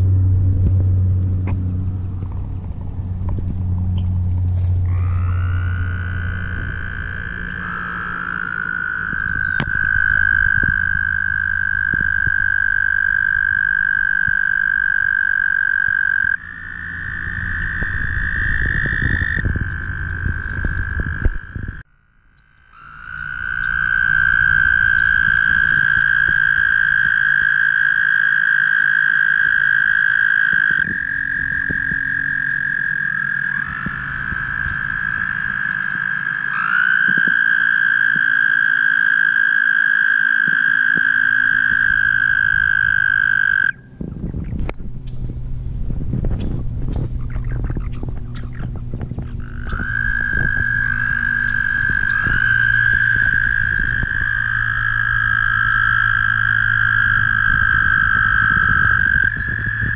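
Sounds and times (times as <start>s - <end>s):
toads trilling: 3.9s - 43.9s, 47.0s - 59.9s.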